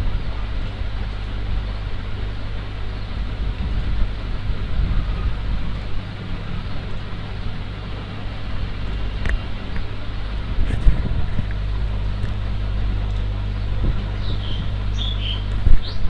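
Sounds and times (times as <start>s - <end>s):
electrical hum: 0.0s - 16.0s
low background rumble: 0.0s - 16.0s.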